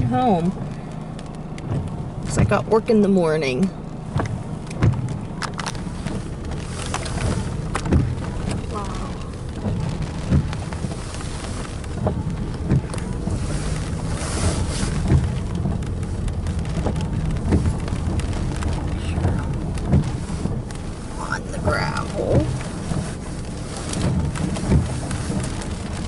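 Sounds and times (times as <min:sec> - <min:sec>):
rain tapping on car: 0:00.0 - 0:26.0
wind buffeting car: 0:00.0 - 0:26.0.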